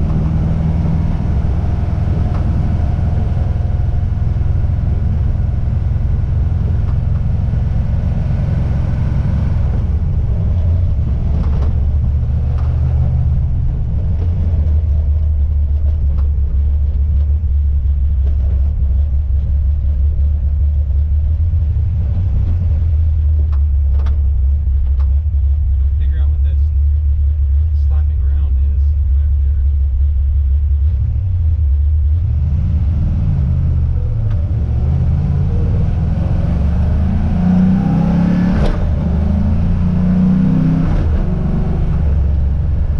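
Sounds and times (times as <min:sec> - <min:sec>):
engine and road rumble: 0:00.0 - 0:42.9.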